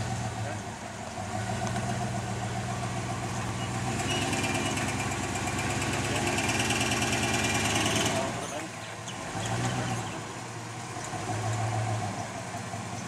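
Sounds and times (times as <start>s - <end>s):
truck engine at low revs: 0.0s - 13.0s.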